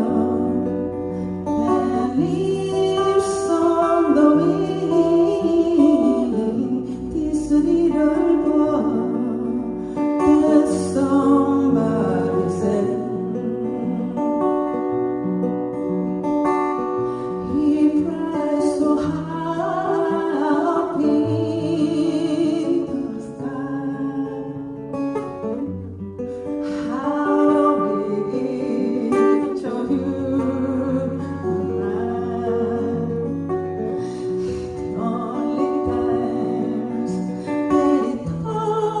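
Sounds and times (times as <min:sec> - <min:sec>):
person singing slow song: 0:00.0 - 0:15.2, 0:16.8 - 0:39.0
acoustic guitar: 0:00.0 - 0:39.0.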